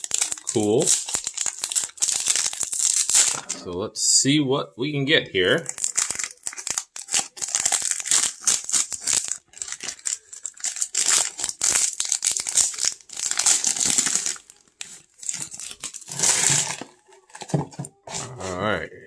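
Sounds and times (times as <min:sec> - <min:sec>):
foil wrapper crinkling and tearing: 0:00.0 - 0:03.6, 0:05.6 - 0:18.6.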